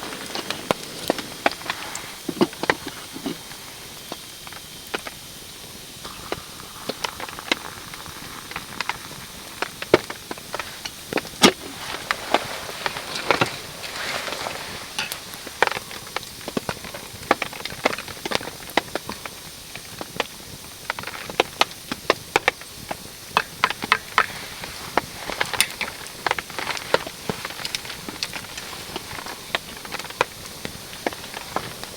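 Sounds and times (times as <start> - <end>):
campfire crackling: 0.0 - 31.9
rain pattering on a tarp: 0.0 - 31.9.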